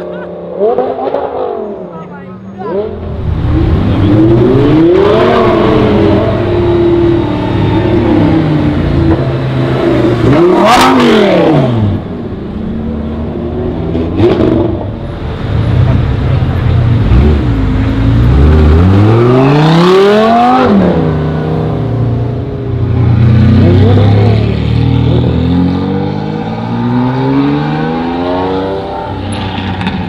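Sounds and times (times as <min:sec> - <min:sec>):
sports car accelerating hard: 0:02.6 - 0:15.0, 0:16.9 - 0:30.0.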